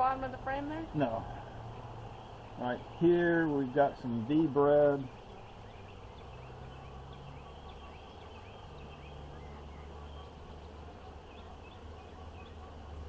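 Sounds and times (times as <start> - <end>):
honeybees droning: 0.0 - 13.0
faint bird chirps: 1.0 - 13.0.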